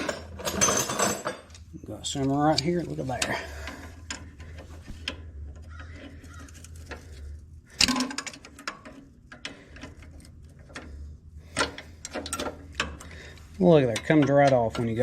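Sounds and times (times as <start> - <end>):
light metal clicks and scrapes: 0.0 - 15.0
steady low hum: 0.0 - 15.0.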